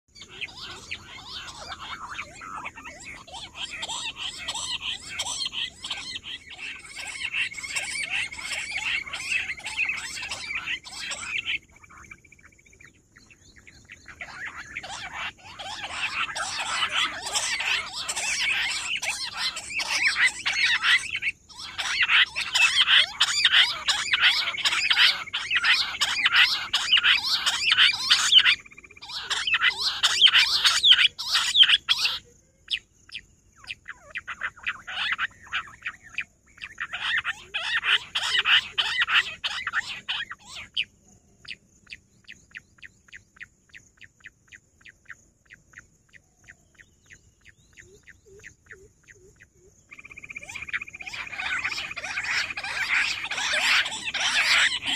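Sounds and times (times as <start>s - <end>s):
quail rapid whistled calls: 0.1s - 54.9s.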